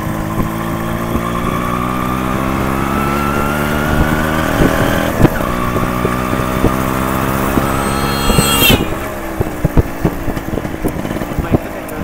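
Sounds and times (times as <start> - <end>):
two-stroke motorcycle engine: 0.0 - 12.0.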